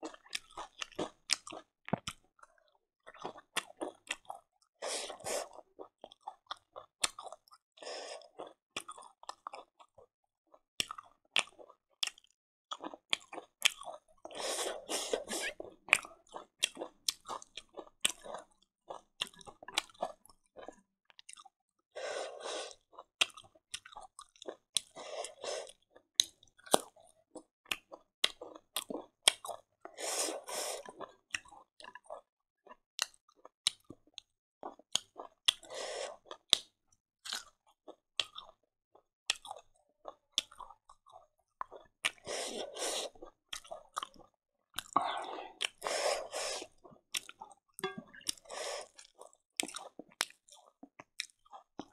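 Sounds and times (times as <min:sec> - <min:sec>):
wet chewing: 0:00.0 - 0:10.0, 0:10.8 - 0:51.9.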